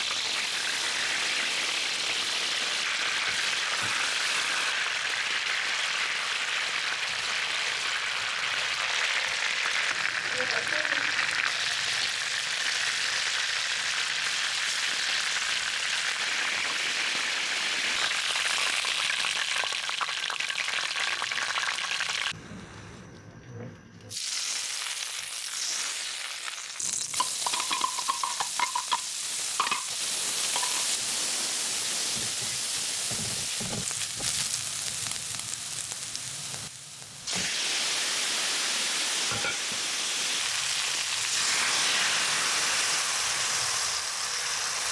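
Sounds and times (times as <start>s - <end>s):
chicken sizzling in hot oil: 0.0s - 22.4s, 24.1s - 44.9s.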